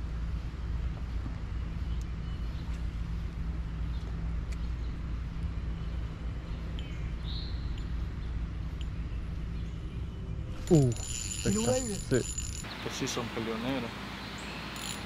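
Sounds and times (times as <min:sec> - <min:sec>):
boat motor humming: 0:00.0 - 0:15.0
bird chirp: 0:01.1 - 0:13.3, 0:14.1 - 0:15.0.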